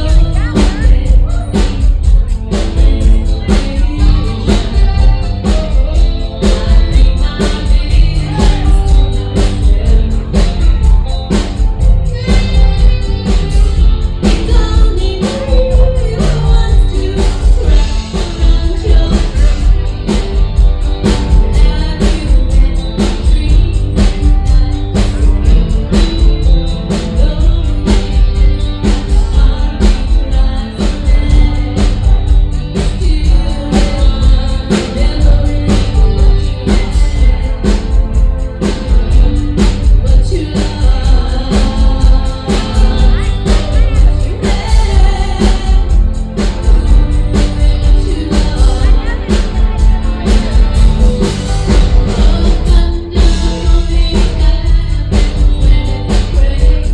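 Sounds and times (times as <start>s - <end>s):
guitar: 0.0s - 56.9s
person singing: 0.0s - 56.9s
steady drum beat: 0.0s - 56.9s.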